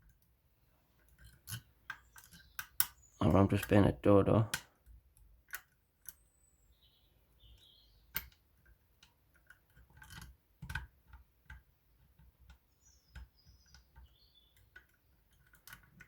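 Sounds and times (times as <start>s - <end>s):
lock picks clicking in lock: 1.0s - 3.7s, 4.5s - 6.2s, 7.6s - 16.0s.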